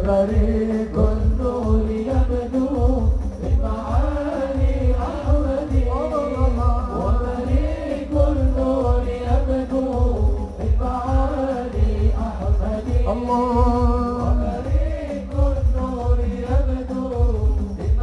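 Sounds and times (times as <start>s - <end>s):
hand drums beating: 0.0s - 18.0s
man chanting into a microphone: 0.0s - 18.0s.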